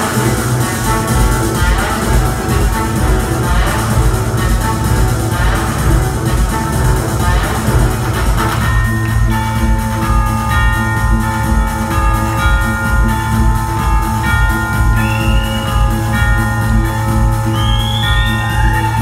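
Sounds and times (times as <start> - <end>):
electronic kick-drum beat: 0.0 - 19.0.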